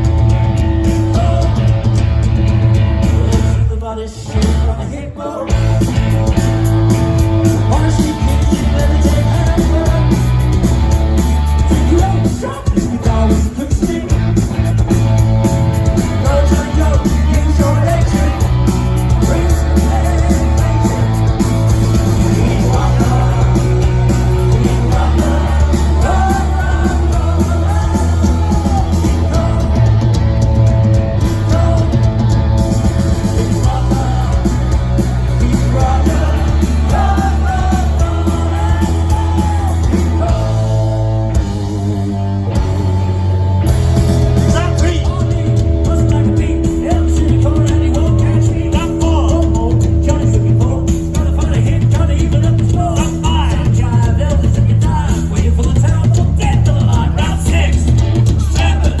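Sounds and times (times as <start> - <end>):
person singing lead vocal: 0.0 - 2.0, 3.0 - 14.9, 15.8 - 43.1, 44.3 - 59.0
heavy bass line: 0.0 - 4.8, 5.5 - 59.0
drums: 0.0 - 59.0
electric guitar: 0.0 - 59.0
punk rock band playing live: 0.0 - 59.0.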